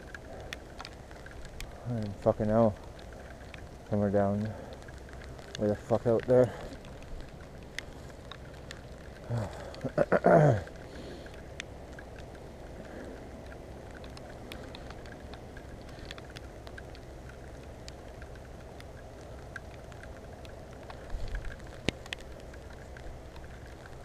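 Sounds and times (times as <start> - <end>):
raindrops ticking on helmet: 0.0 - 24.0
tyres on wet dirt trail: 0.0 - 24.0
wind: 0.0 - 24.0.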